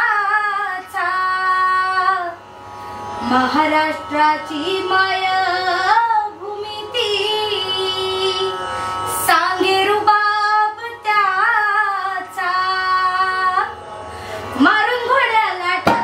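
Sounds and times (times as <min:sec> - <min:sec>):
woman singing unaccompanied: 0:00.0 - 0:02.4, 0:03.2 - 0:13.8, 0:14.5 - 0:16.0.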